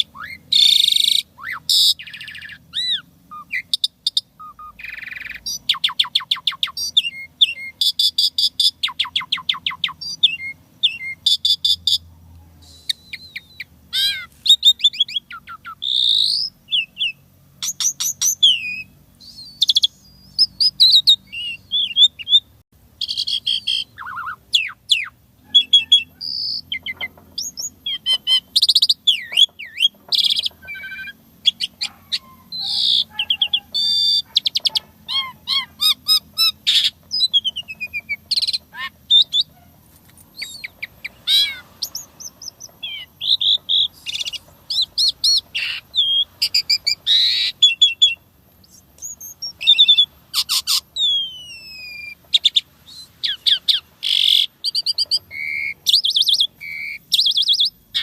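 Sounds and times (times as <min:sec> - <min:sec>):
starling singing varied song: 0:00.0 - 0:58.0.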